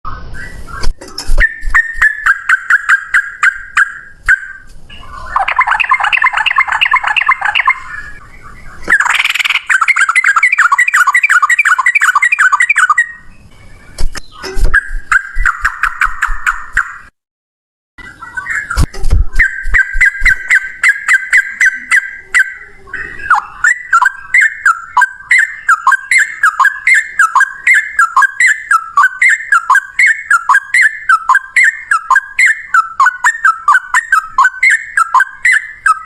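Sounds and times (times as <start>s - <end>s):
bulbuls singing chattering notes: 0.2s - 17.1s, 18.0s - 36.0s.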